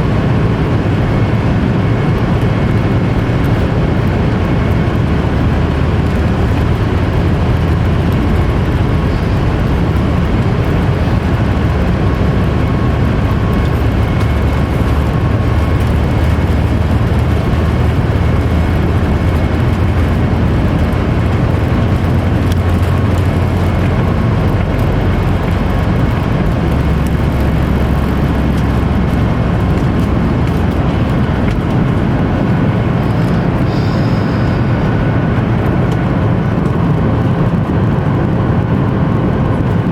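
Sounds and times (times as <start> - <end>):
airliner cabin drone: 0.0 - 39.9
faint steady whine: 0.0 - 39.9.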